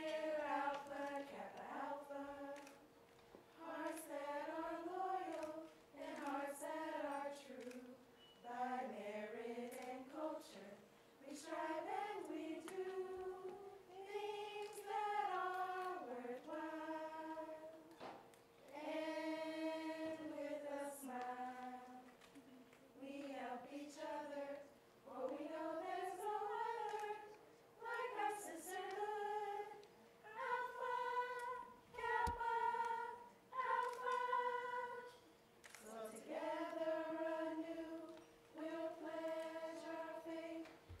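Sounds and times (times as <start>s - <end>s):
women singing unaccompanied: 0.0s - 2.9s, 3.5s - 17.9s, 18.6s - 22.2s, 22.9s - 41.0s.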